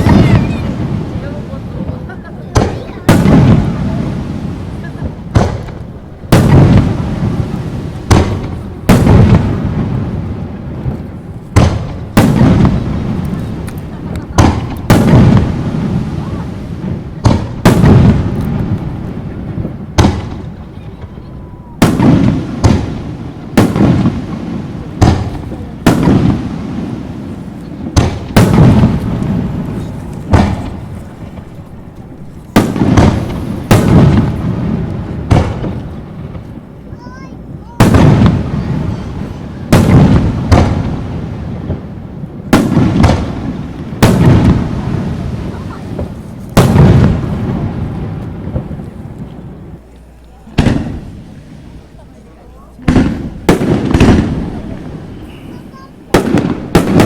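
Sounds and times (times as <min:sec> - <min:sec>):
firework shells bursting: 0:00.0 - 0:57.0.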